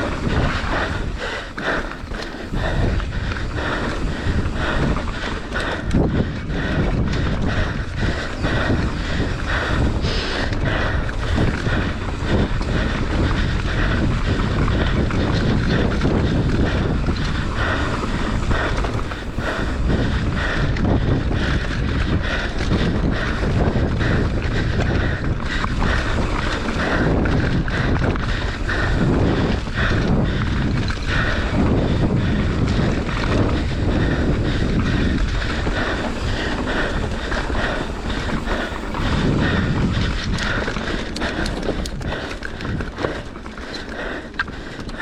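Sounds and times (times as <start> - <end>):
bike rattling on rough trail: 0.0 - 45.0
wind buffeting microphone: 0.0 - 45.0.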